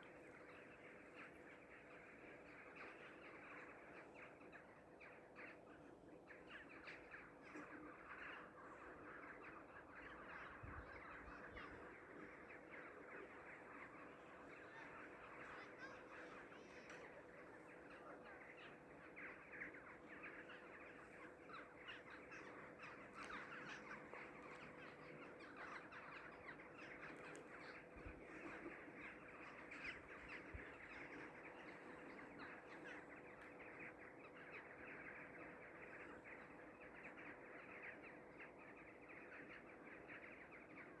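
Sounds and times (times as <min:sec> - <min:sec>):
faint steady hum: 0:00.0 - 0:41.0
flock of birds chattering: 0:00.0 - 0:41.0.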